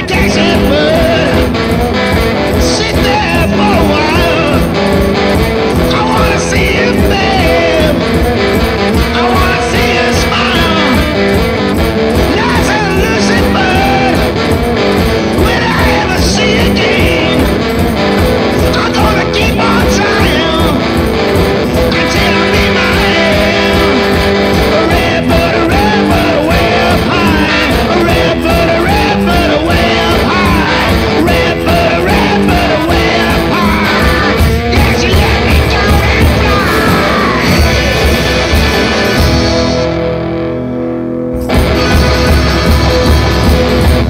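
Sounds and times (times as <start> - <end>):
driving drum beat: 0.0 - 40.5, 41.3 - 44.0
electric guitar: 0.0 - 44.0.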